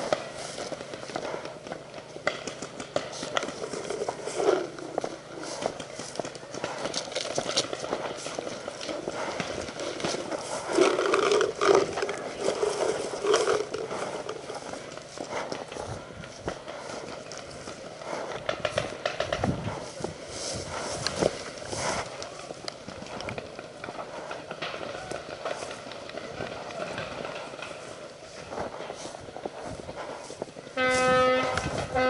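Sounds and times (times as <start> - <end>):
footsteps on rough ground: 0.0 - 32.0
rustling: 0.0 - 32.0.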